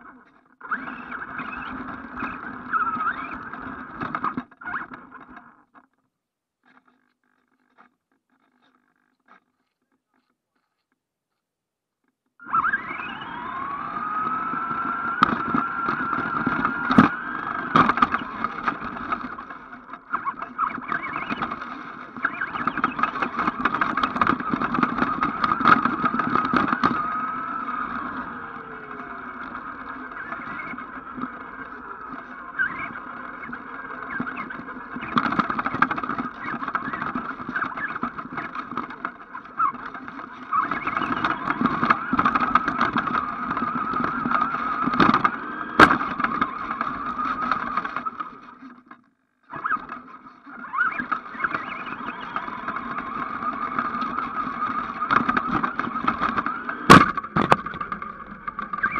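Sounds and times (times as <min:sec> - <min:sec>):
electric motor whining: 0:00.0 - 0:05.4, 0:12.4 - 0:48.8, 0:49.5 - 0:58.9.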